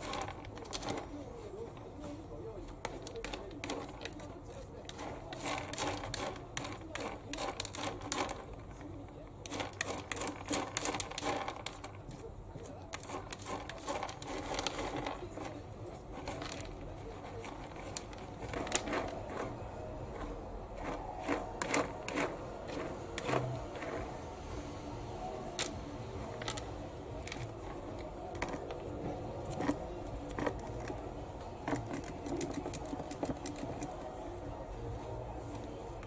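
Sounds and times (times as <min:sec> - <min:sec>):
cat scraping litter: 0:00.0 - 0:36.0.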